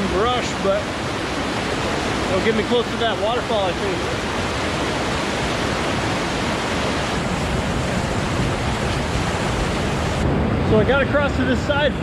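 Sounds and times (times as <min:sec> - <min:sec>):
rushing runoff water: 0:00.0 - 0:12.0.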